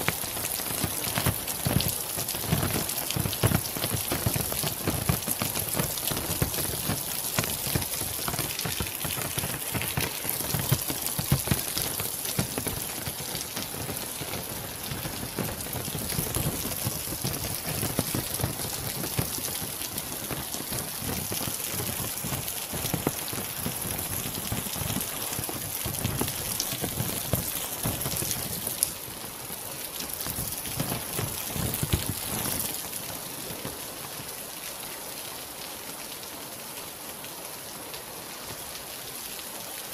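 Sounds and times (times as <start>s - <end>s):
close raindrops hitting: 0.0s - 39.9s
rain falling: 0.0s - 39.9s.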